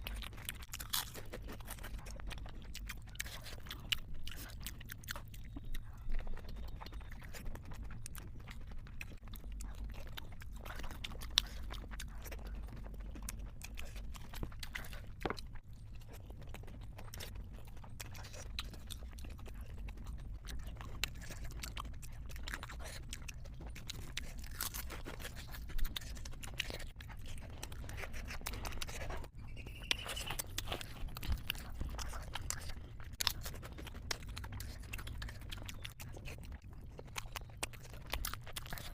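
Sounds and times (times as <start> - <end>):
faint low hum: 0.0 - 38.9
person chewing wet mouth sounds: 0.0 - 38.9.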